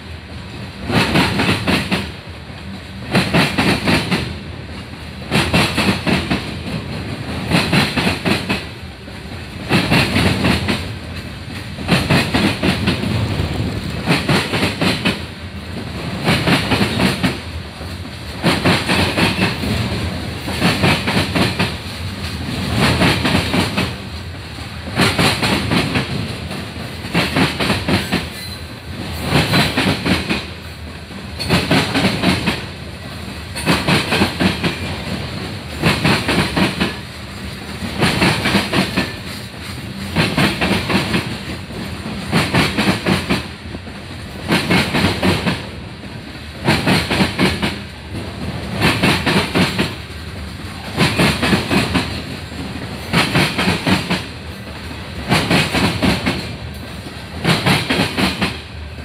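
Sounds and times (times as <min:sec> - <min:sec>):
train rumble: 0:00.0 - 0:59.0
train wheels clacking over rail joints: 0:00.8 - 0:02.2, 0:03.0 - 0:08.7, 0:09.3 - 0:58.6.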